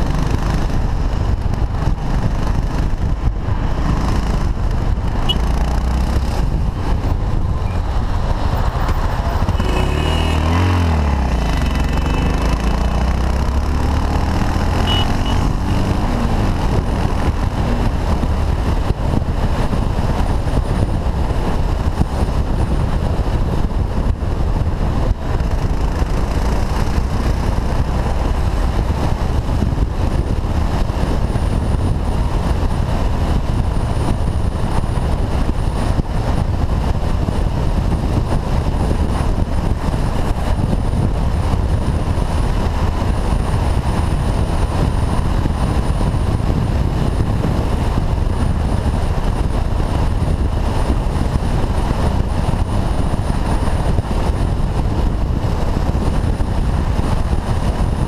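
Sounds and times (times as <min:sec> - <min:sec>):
motorcycle engine: 0:00.0 - 0:58.0
road noise: 0:00.0 - 0:58.0
wind rushing over microphone: 0:00.0 - 0:58.0.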